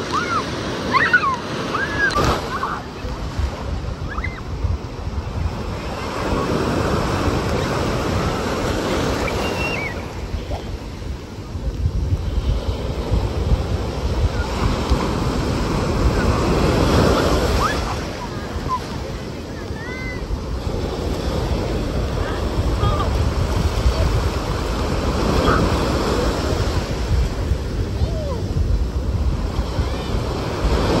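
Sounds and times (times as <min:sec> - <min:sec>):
surf breaking on beach: 0:00.0 - 0:31.0.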